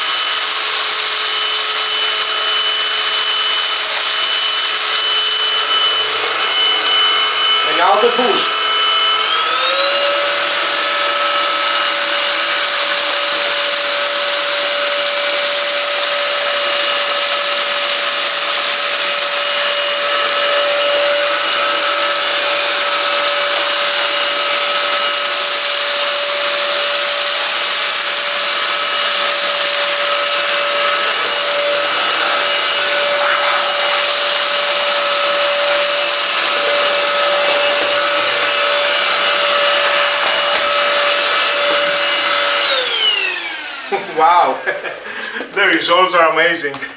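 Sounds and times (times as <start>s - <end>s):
vacuum cleaner motor whine: 0.0s - 45.4s.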